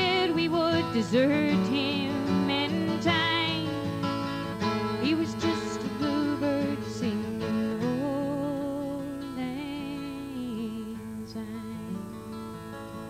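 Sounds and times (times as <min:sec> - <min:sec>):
woman singing with vibrato: 0:00.0 - 0:12.7
acoustic guitar strumming: 0:00.0 - 0:13.0.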